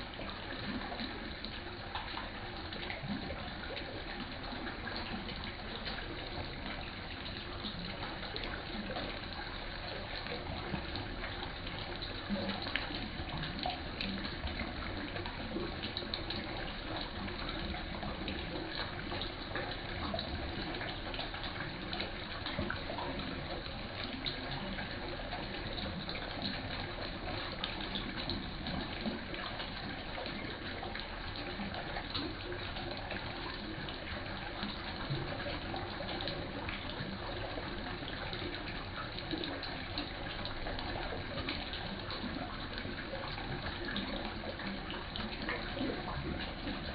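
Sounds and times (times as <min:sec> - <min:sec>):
water running into a pond: 0:00.0 - 0:46.9.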